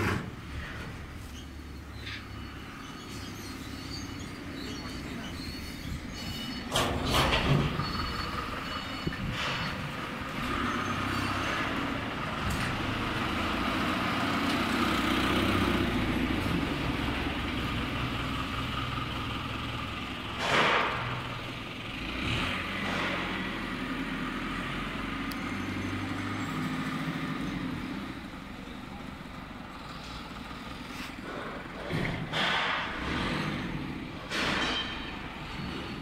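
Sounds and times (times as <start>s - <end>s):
forklift engine running: 0.0s - 36.0s.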